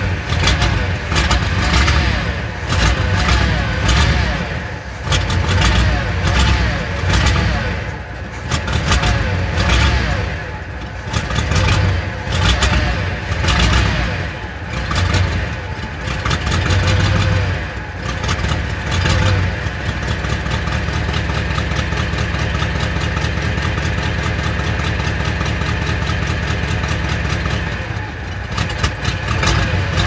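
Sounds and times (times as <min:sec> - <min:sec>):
car engine idling unevenly: 0:00.0 - 0:30.0.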